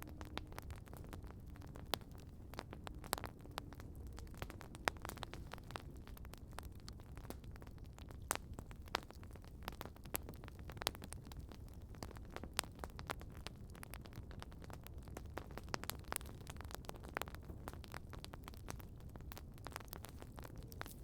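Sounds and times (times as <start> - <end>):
campfire crackling: 0.0 - 21.0
low fire rumble: 0.0 - 21.0.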